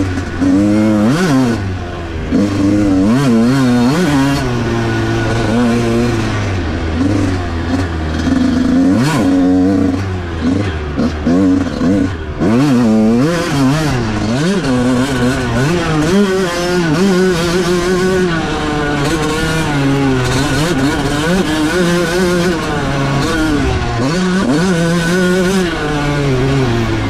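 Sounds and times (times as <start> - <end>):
two-stroke motorcycle engine revving: 0.0 - 27.0.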